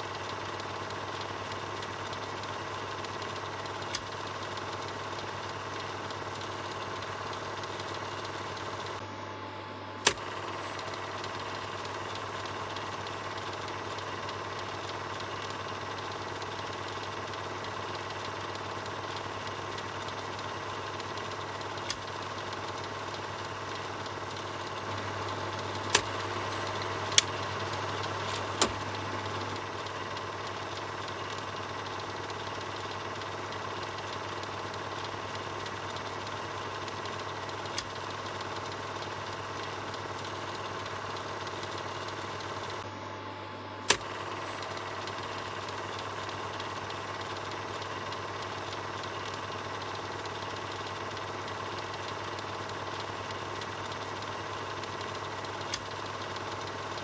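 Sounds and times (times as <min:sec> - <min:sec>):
sharp clicks: 0:00.0 - 0:09.0, 0:10.0 - 0:42.8, 0:43.8 - 0:57.0
film projector whirring: 0:00.0 - 0:57.0.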